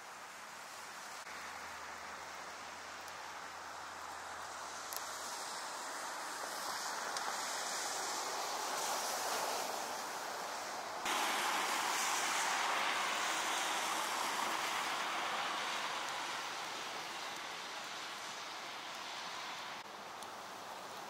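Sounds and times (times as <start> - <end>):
snowfall hiss: 0.0 - 21.0
traffic on wet road: 0.1 - 21.0.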